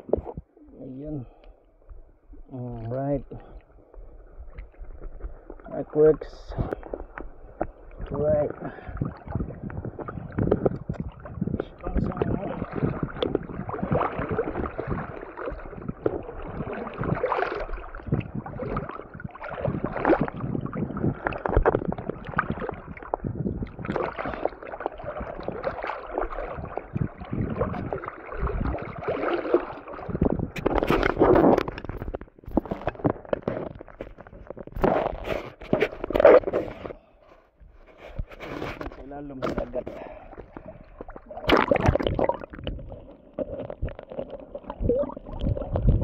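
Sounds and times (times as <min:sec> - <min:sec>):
water sloshing and splashing: 0:00.0 - 0:46.0.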